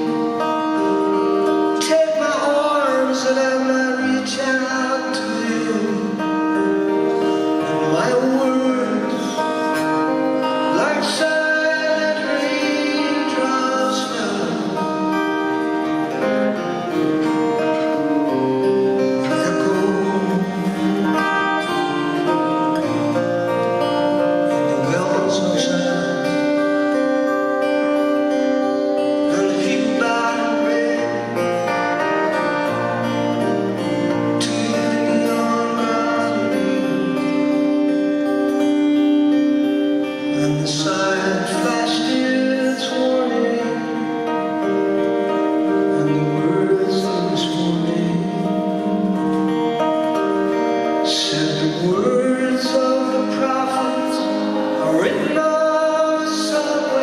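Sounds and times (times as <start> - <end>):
acoustic guitar chords: 0.0 - 57.0.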